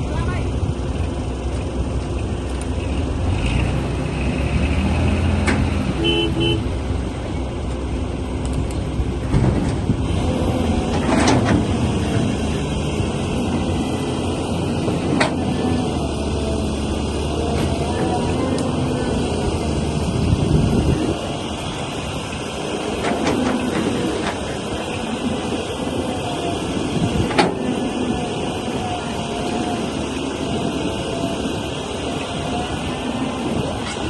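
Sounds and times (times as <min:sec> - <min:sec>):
heavy machinery engines running: 0:00.0 - 0:34.0.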